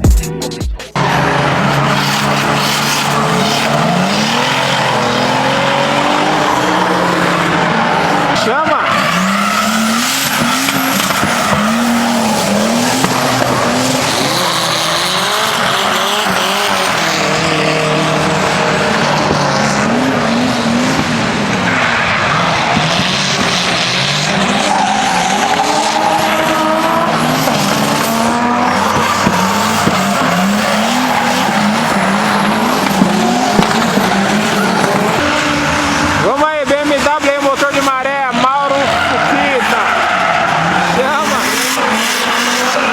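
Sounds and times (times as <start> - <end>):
tyres squealing: 1.0 - 20.8, 21.4 - 42.9
car engine revving hard: 1.0 - 42.9.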